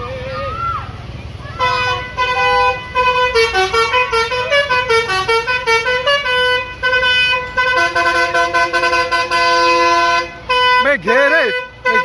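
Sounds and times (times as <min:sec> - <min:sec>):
melodic bus horn: 0:01.6 - 0:12.0.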